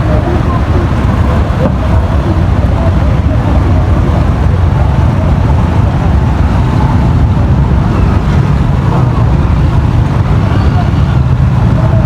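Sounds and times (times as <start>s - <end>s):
faint voices: 0.0s - 12.0s
road traffic rumble: 0.0s - 12.0s.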